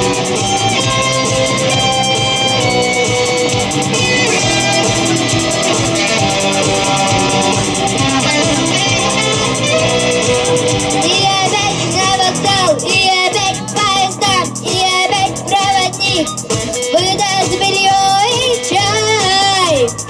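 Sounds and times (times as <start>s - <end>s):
rock guitar: 0.0s - 20.0s
steady drum beat: 0.0s - 20.0s.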